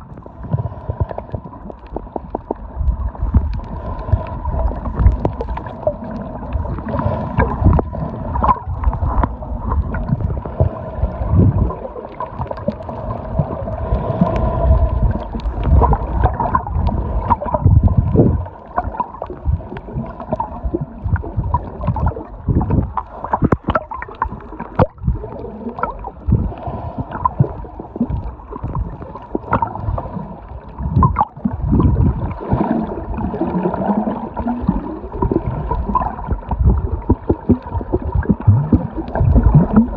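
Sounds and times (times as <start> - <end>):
muffled underwater water gurgling: 0.0 - 39.9.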